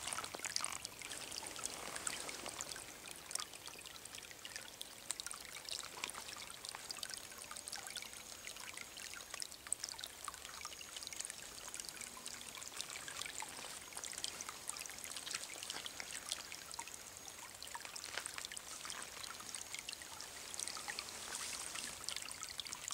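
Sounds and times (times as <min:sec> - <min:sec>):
stream water trickling: 0:00.0 - 0:22.9.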